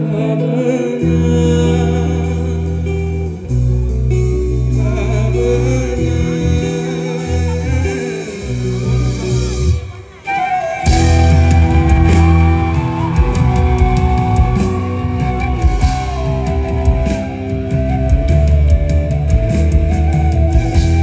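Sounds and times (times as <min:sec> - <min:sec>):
electric guitar lead bending notes: 0:00.0 - 0:21.0
live rock band playing: 0:00.0 - 0:21.0.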